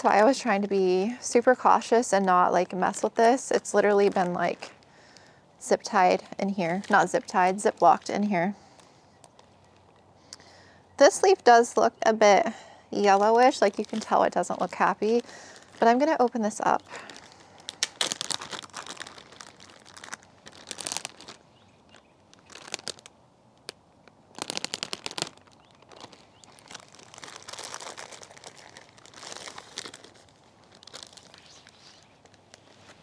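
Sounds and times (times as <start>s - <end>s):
plastic bag crinkling: 2.2s - 10.0s, 13.0s - 33.0s.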